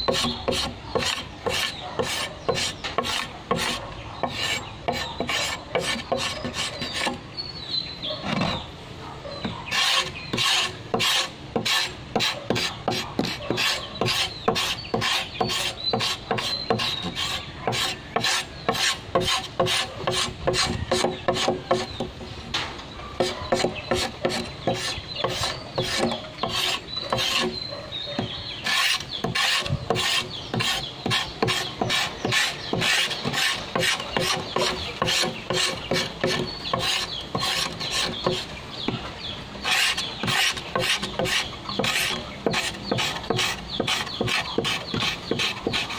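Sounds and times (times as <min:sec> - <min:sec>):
knife scraping bamboo: 0:00.0 - 0:07.2, 0:09.6 - 0:22.2, 0:23.2 - 0:39.0, 0:39.6 - 0:45.9.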